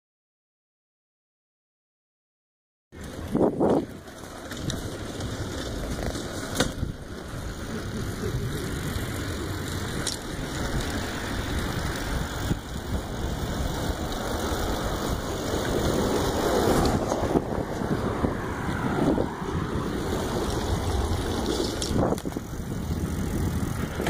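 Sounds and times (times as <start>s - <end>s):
bicycle tyre rumble: 3.0s - 24.0s
wind buffeting microphone: 3.1s - 24.0s.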